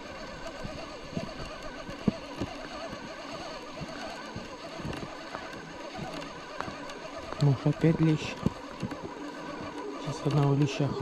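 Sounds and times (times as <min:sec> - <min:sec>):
warbling animal calls: 0:00.0 - 0:11.0.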